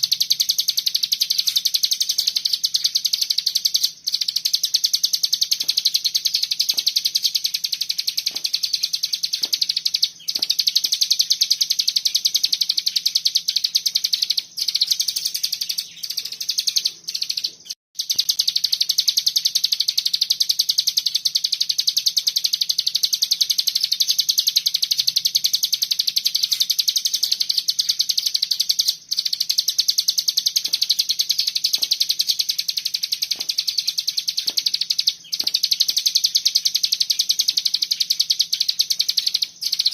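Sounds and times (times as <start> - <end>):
songbird rapid trill: 0.0 - 39.9.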